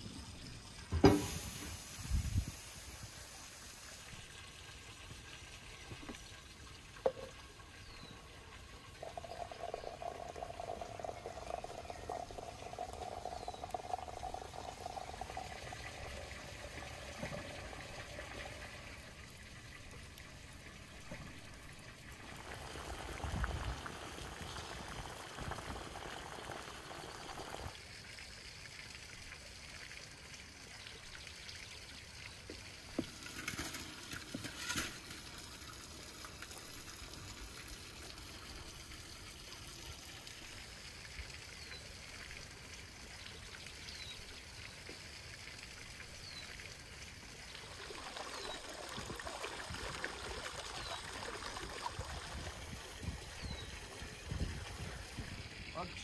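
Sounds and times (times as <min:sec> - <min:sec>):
water pouring and bubbling in pot: 0:00.0 - 0:56.0.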